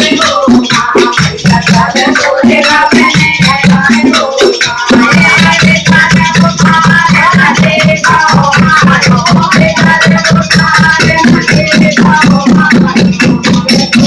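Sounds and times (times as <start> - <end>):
fast percussion beat: 0.0 - 14.0.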